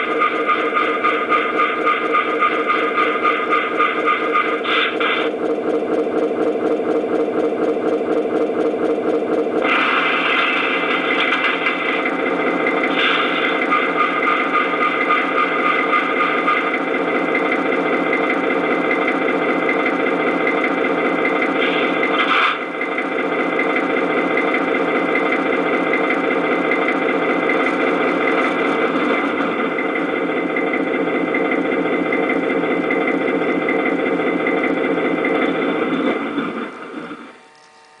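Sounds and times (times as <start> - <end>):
diesel engine sound through small speaker: 0.0 - 38.0.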